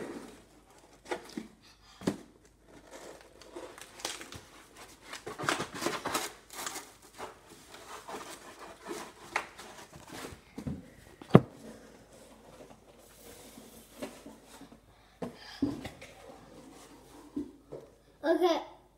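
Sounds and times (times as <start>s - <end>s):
rustling and handling noises: 0.0s - 18.0s.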